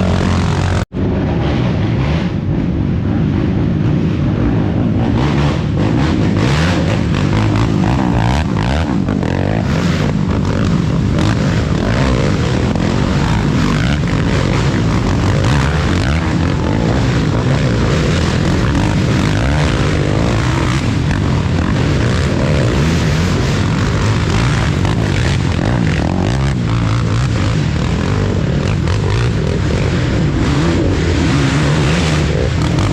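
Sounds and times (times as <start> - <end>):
quad bike engine revving: 0.0 - 32.9.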